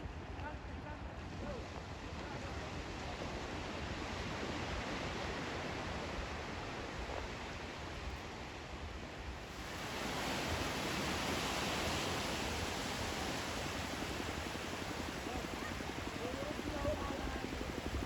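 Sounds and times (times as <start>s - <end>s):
sea surf rushing on beach: 1.3s - 18.0s.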